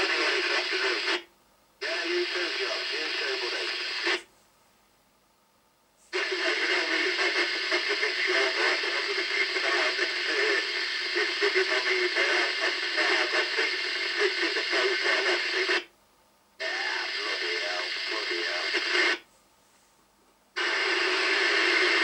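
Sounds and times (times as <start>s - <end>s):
hissy radio signal: 0.0s - 4.3s, 6.0s - 15.9s, 16.6s - 19.3s, 20.6s - 22.0s.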